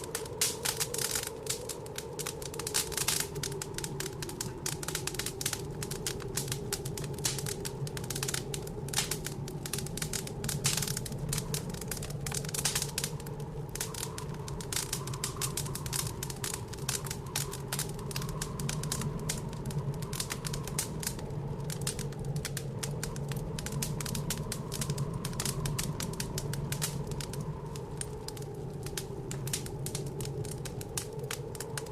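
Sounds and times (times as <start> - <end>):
blizzard wind howling: 0.0 - 31.9
wood fire crackling: 0.0 - 31.9.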